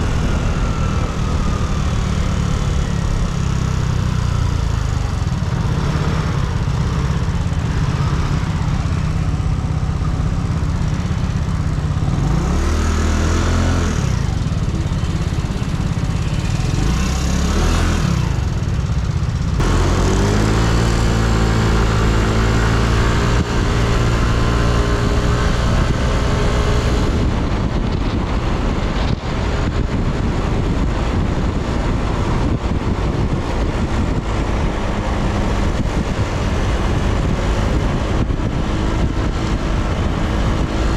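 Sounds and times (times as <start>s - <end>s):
scooter engine accelerating: 0.0s - 40.9s
wind and road noise: 0.0s - 40.9s.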